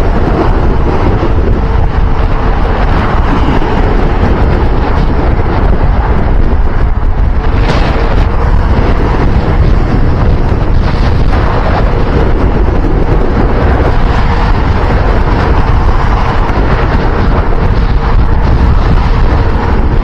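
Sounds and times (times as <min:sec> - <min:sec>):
vehicle and road noise: 0:00.0 - 0:20.0
wind buffeting microphone: 0:00.0 - 0:20.0.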